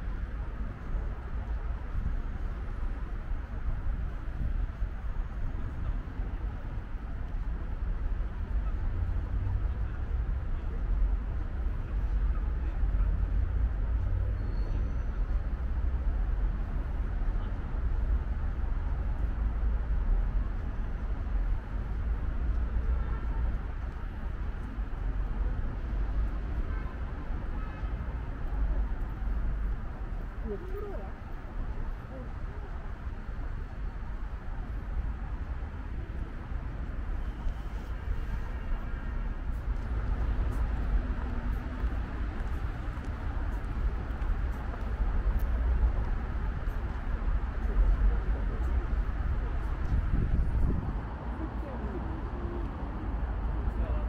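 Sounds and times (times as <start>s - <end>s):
faint street noise: 0.0s - 54.0s
traffic rumble: 0.0s - 54.0s.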